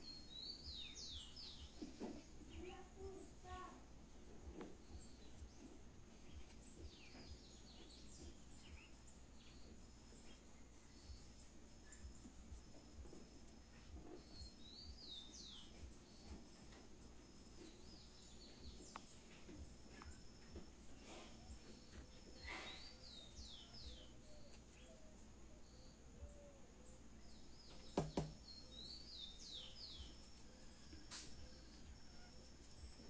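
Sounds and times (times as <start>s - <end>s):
faint bird chirps: 0.0s - 33.0s.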